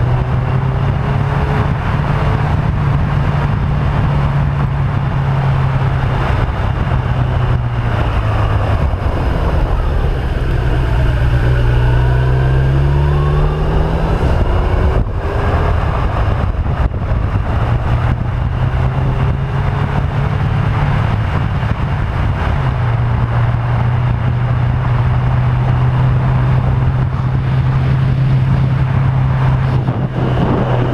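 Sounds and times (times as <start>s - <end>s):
motorcycle engine cruising: 0.0s - 30.9s
wind rush on microphone: 0.0s - 30.9s.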